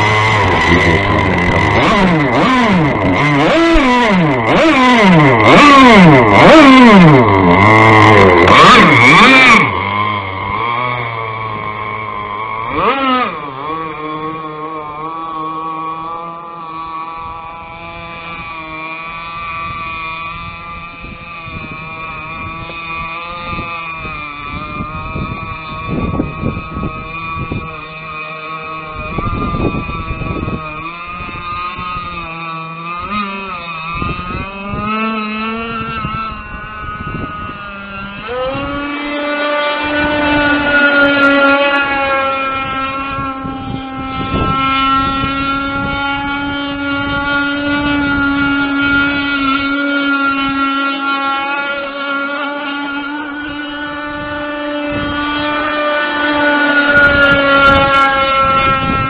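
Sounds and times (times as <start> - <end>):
two-stroke boat engine buzzing: 0.0 - 59.0.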